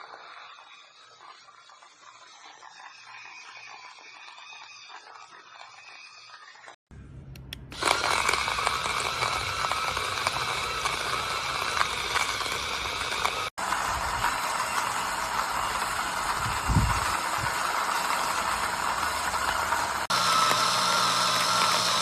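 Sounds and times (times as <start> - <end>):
coffee grinder grinding beans: 0.0 - 6.8, 7.8 - 22.0.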